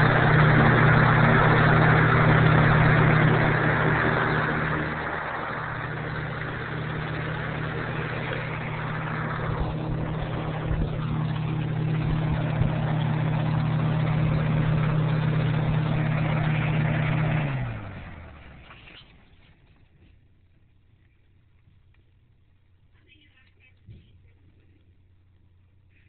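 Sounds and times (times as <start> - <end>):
box fan humming: 0.0 - 26.0.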